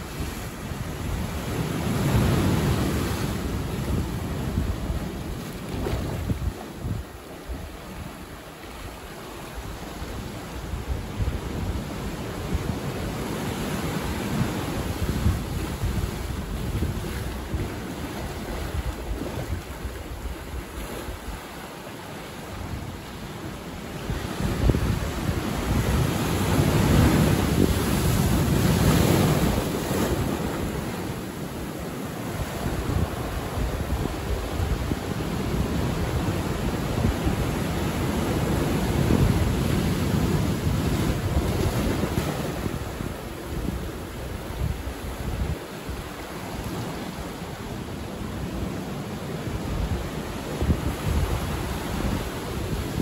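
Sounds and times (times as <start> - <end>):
wind buffeting microphone: 0.0 - 8.4, 9.6 - 21.4, 24.0 - 46.2, 49.5 - 53.0
ocean surf breaking: 0.0 - 53.0.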